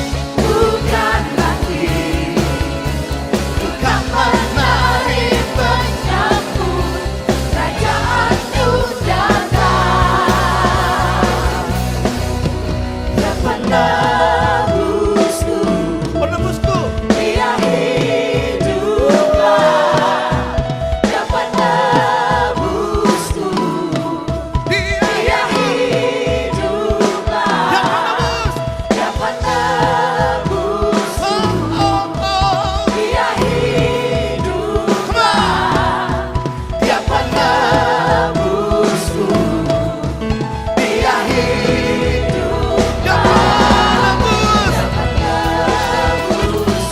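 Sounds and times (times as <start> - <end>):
voices singing with vibrato: 0.0 - 16.2, 17.0 - 46.9
band with bass and drums: 0.0 - 46.9.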